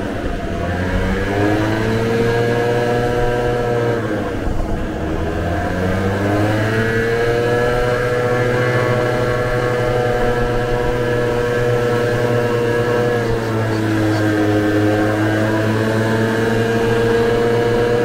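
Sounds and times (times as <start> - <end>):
scooter engine running: 0.0 - 18.0.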